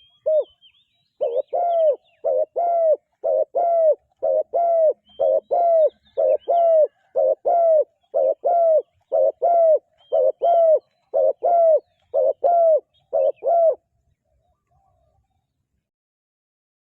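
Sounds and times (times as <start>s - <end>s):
dove cooing: 0.0s - 15.2s
small birds chirping: 0.0s - 15.6s.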